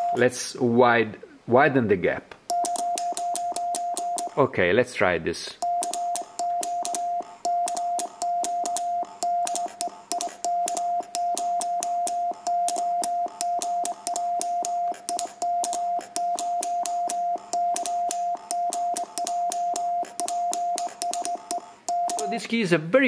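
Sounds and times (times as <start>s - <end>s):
morse code beeps: 0.0s - 0.3s, 2.5s - 4.4s, 5.6s - 22.5s
key clicks: 2.5s - 4.4s, 5.6s - 22.4s.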